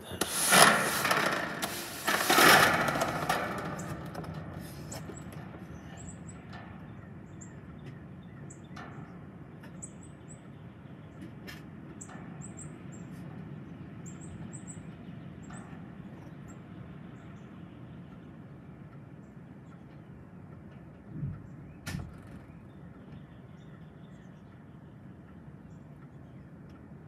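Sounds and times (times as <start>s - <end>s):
small birds chirping: 0.0s - 27.0s
strong wind: 0.0s - 27.0s
wind buffeting microphone: 0.0s - 27.0s.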